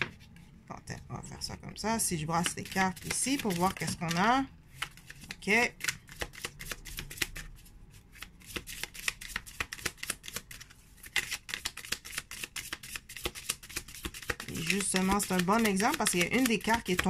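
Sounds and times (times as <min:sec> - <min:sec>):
cards being shuffled: 0:02.4 - 0:17.0.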